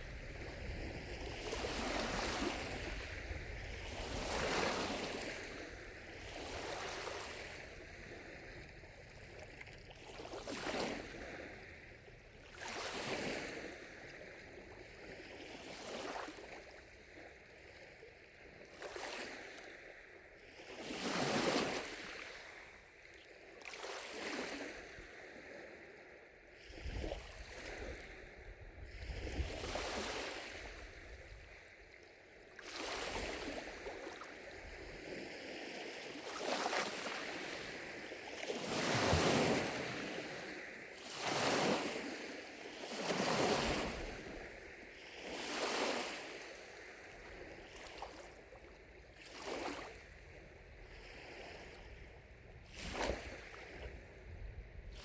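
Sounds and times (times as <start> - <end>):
wind rumble on microphone: 0.0 - 18.6, 24.2 - 32.0, 32.7 - 55.0
lake waves lapping on shore: 0.0 - 55.0.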